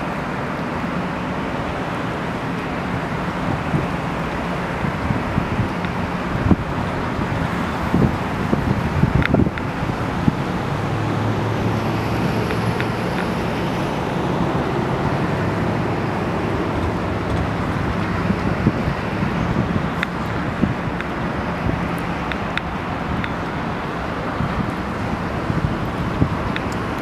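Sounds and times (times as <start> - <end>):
boat engine drone: 0.0 - 27.0
water rushing: 0.0 - 27.0.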